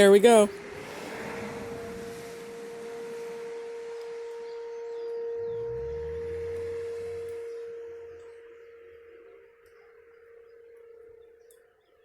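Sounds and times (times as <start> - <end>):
low rumble: 0.0 - 11.4
distant warning siren steady tone: 0.0 - 12.0.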